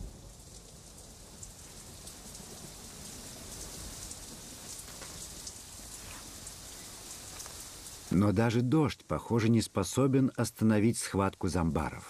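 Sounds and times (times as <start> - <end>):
rain on foliage: 0.0 - 12.0.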